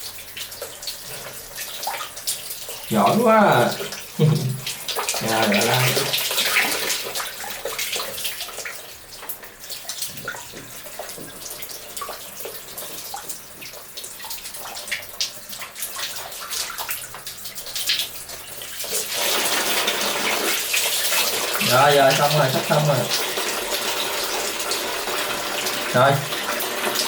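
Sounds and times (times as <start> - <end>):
bathwater splashing and trickling: 0.0 - 27.0.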